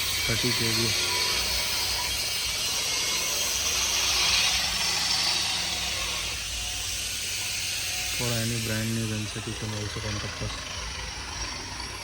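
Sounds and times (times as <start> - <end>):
machinery hiss and rattle: 0.0 - 12.0.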